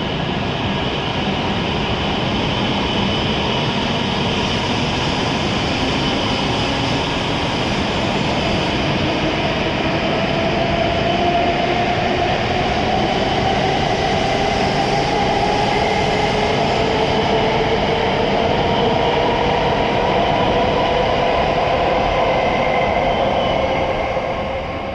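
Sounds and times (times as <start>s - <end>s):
train accelerating with motor whine: 0.0s - 24.9s.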